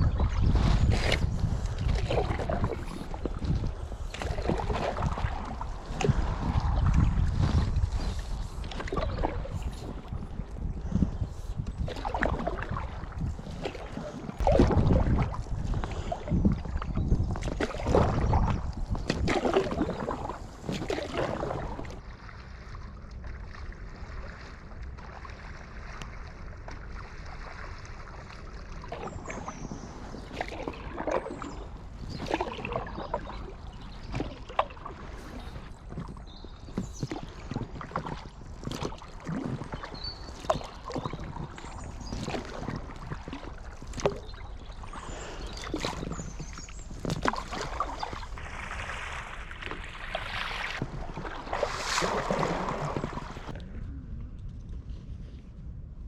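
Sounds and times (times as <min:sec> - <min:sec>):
paddle strokes splashing water: 0:00.0 - 0:53.6.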